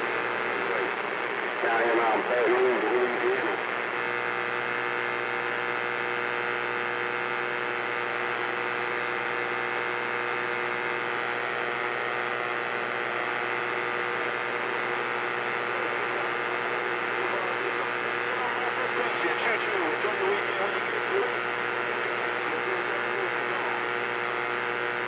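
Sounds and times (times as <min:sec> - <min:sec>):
constant hum: 0:00.0 - 0:25.0
radio receiver hissing: 0:00.0 - 0:25.0.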